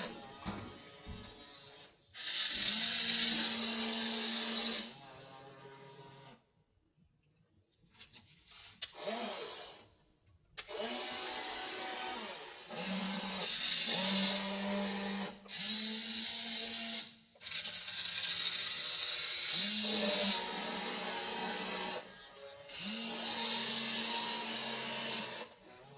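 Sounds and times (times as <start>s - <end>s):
small electric motors whining: 0.0s - 6.4s, 10.6s - 25.9s.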